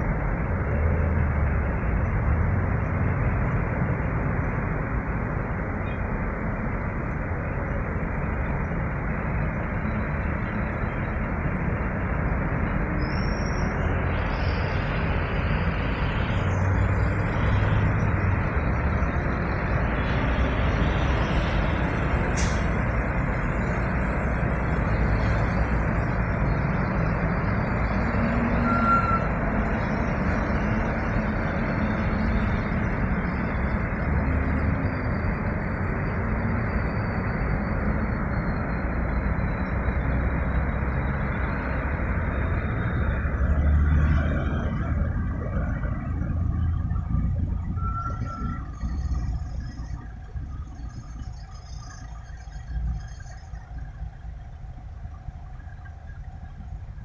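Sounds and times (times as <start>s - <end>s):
road noise: 0.0s - 57.0s
truck engine rumble: 0.0s - 57.0s.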